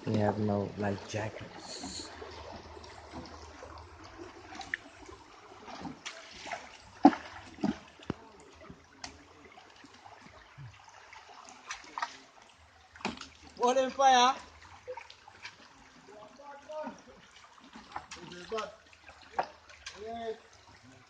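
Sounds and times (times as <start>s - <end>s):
river water flowing and splashing: 0.0s - 21.0s
sharp water splashes: 1.3s - 20.9s.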